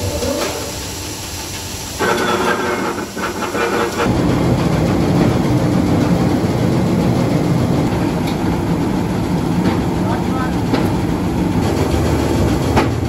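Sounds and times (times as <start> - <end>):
grain roller mill running: 0.0 - 13.0.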